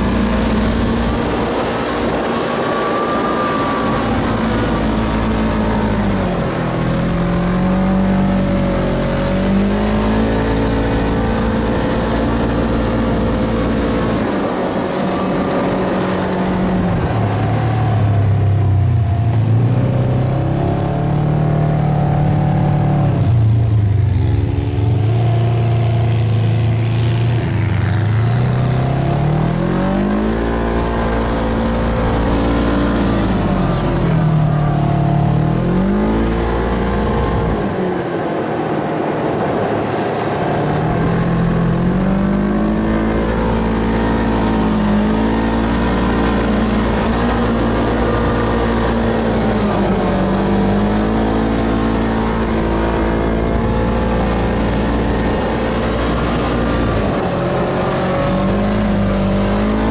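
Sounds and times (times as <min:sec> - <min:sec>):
dune buggy engine revving: 0:00.0 - 0:59.9.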